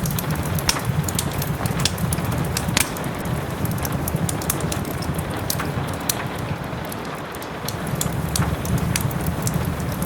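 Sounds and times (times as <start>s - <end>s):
fire popping: 0.0s - 10.0s
soft rain hiss: 0.0s - 10.0s
wood fire crackling: 0.0s - 10.0s.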